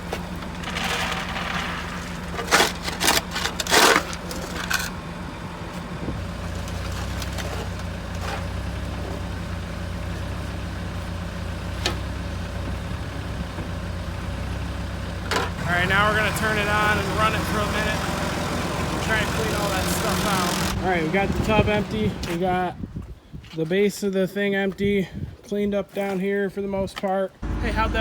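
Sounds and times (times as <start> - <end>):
engine running low drone: 0.0 - 22.5, 27.4 - 28.0.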